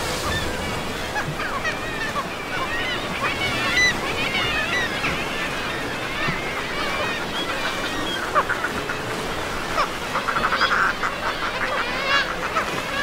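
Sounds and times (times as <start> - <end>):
seabirds calling harshly: 0.0 - 13.0.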